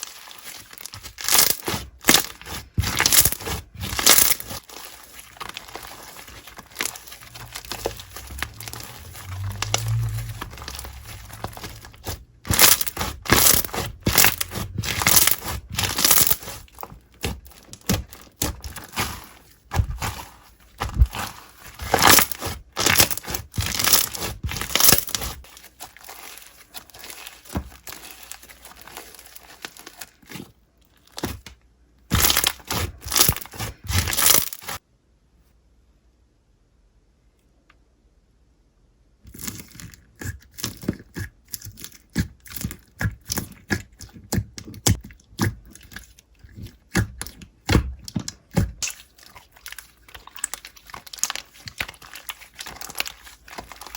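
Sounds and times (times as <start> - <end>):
slime crackling and crunching: 0.0 - 31.5, 32.1 - 34.8, 39.3 - 53.9.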